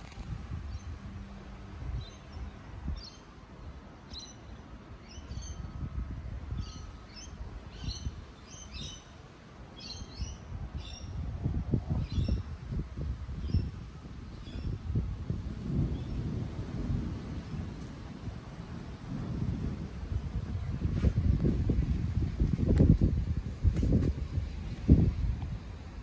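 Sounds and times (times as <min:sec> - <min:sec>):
wind buffeting microphone: 0:00.0 - 0:09.2, 0:09.8 - 0:26.0.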